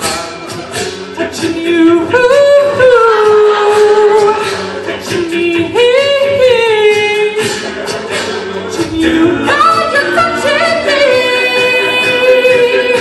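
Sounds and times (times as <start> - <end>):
backing voices singing: 0.0 - 13.0
lead male voice singing: 0.0 - 13.0
vocal percussion beat: 0.0 - 13.0.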